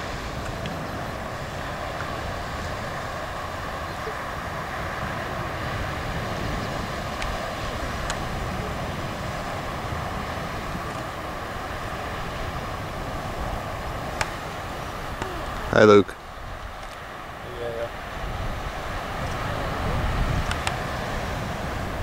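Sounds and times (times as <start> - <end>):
sea rushing: 0.0 - 22.0
wind on microphone: 0.0 - 22.0.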